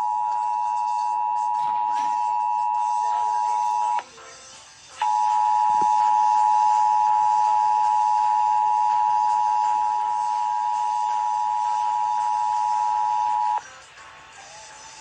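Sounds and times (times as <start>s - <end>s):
two-tone alert signal: 0.0s - 4.0s, 5.0s - 13.6s.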